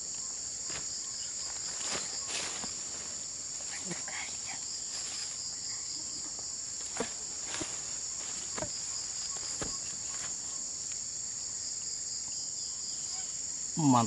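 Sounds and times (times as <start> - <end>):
crickets and insects chirping: 0.0 - 14.0.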